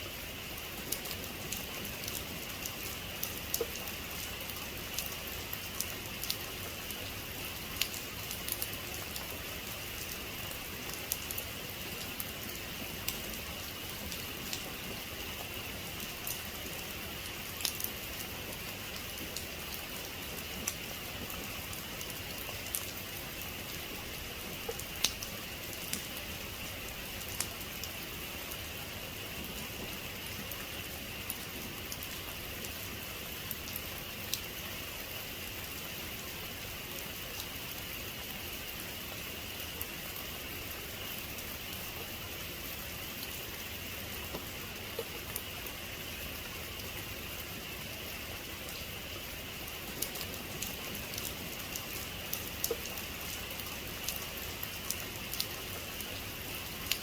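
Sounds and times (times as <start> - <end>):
heavy rain falling: 4.9 - 57.0.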